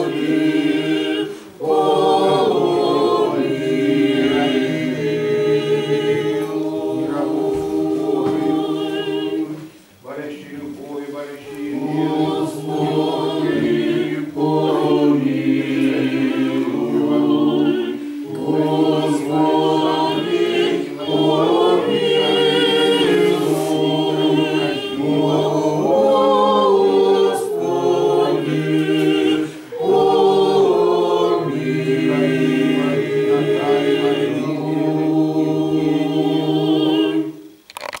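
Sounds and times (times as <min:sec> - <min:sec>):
group singing a cappella hymn: 0:00.0 - 0:37.6.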